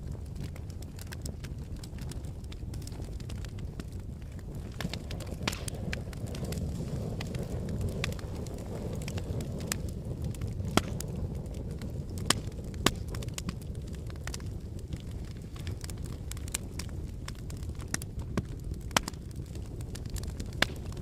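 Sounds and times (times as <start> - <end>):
lava crackling: 0.0 - 21.0.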